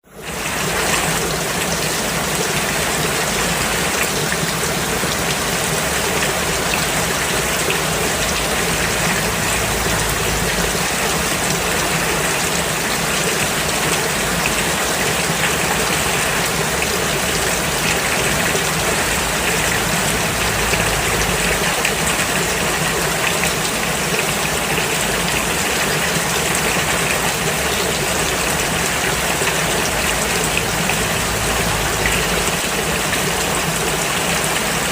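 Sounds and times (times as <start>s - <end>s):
rain falling on road: 0.1s - 34.9s.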